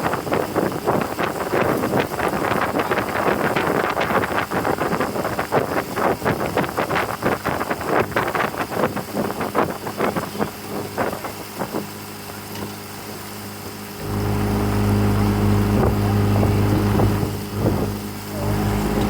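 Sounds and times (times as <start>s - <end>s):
motorboat engine running: 0.0s - 19.0s
wind noise on microphone: 0.0s - 19.0s.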